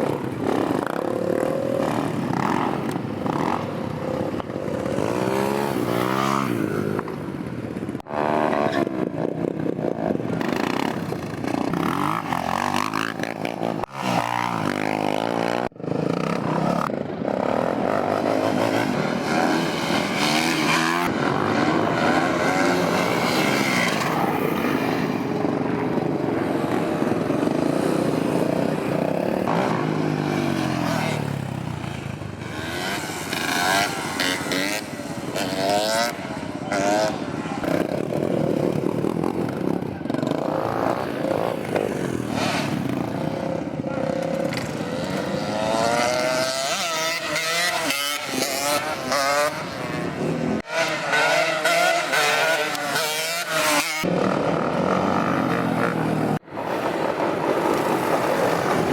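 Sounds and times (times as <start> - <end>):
motorcycle engines revving: 0.0 - 58.9.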